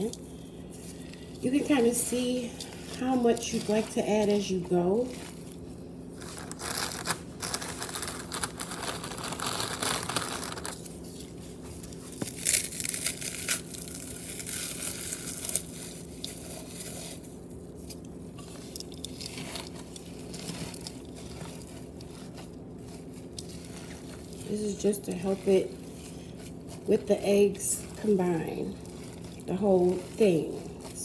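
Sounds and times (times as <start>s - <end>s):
crackers being crushed by hand: 2.3s - 31.0s.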